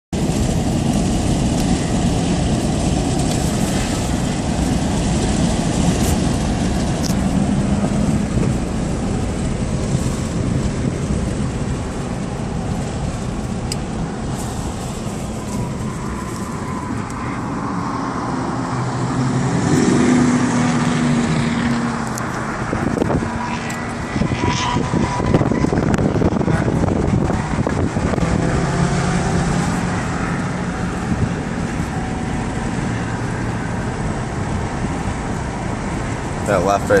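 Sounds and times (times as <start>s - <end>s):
road and wind noise: 0.1s - 37.0s.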